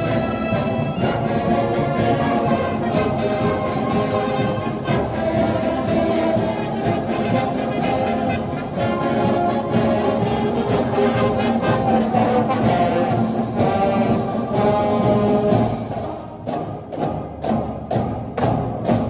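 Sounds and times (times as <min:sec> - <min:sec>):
brass instruments playing tune: 0:00.0 - 0:17.1
steady drum beat: 0:00.0 - 0:19.0.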